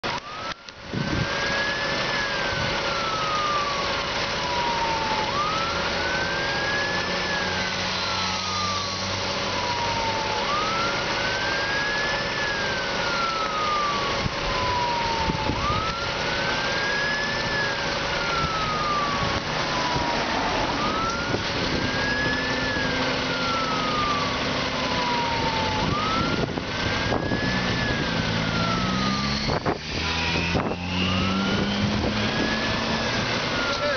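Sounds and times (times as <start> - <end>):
fire engine siren wailing: 0.0 - 33.9
truck engine running: 0.0 - 33.9.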